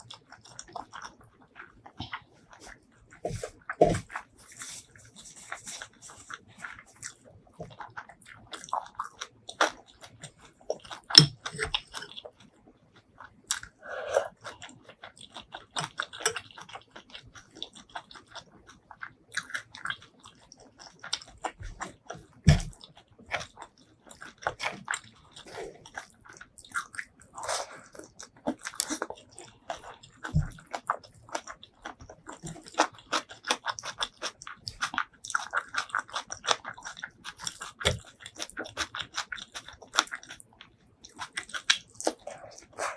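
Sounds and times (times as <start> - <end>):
person chewing and biting: 0.0 - 42.9.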